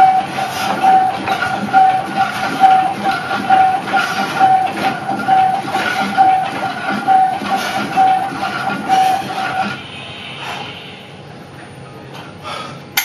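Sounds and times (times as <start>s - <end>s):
pulsing note over clattering beat: 0.0s - 10.7s.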